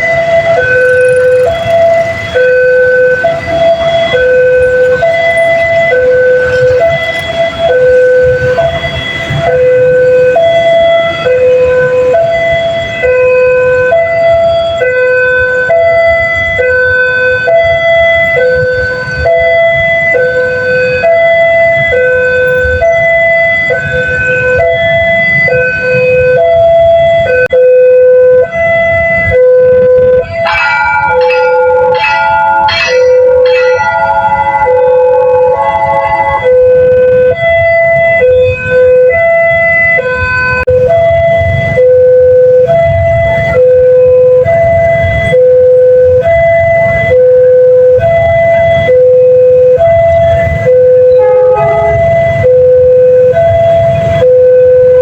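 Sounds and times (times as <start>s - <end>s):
level crossing two-tone siren: 0.0s - 55.0s.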